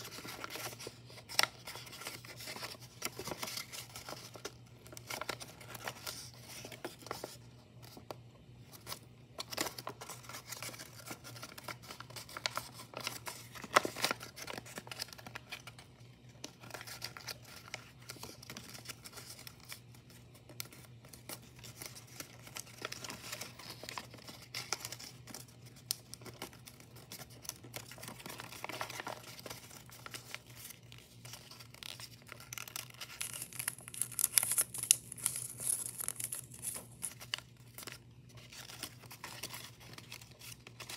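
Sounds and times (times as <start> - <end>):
paper rustling and crinkling: 0.0 - 40.9.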